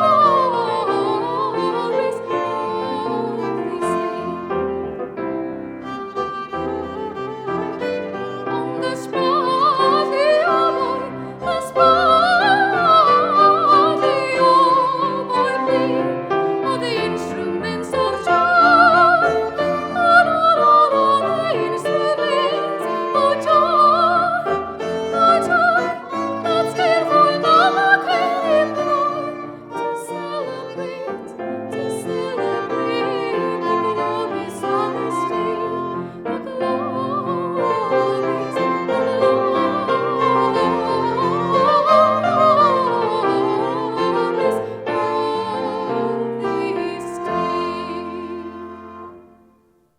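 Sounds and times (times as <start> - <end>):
operatic singing: 0.0 - 5.1, 6.2 - 49.2
strings and keyboard accompaniment: 0.0 - 49.8.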